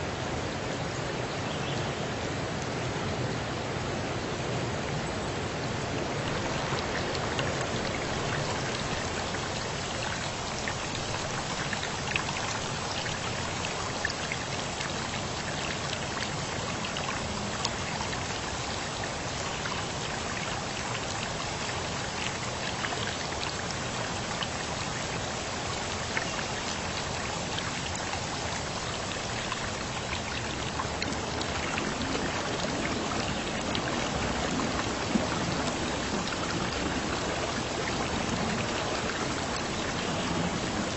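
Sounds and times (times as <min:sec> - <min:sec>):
steady rainfall hiss: 0:00.0 - 0:40.9
raindrops ticking on a surface: 0:06.0 - 0:40.9.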